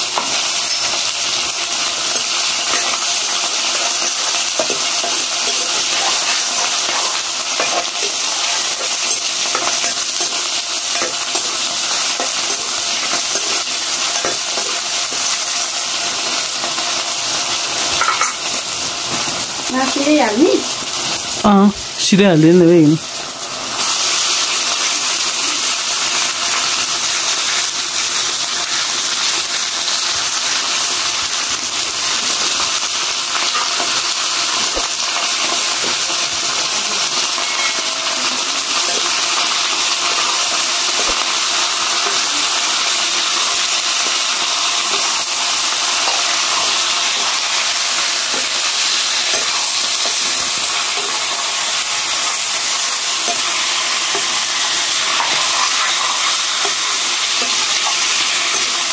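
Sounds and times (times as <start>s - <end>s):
chicken sizzling in hot oil: 0.0s - 58.9s.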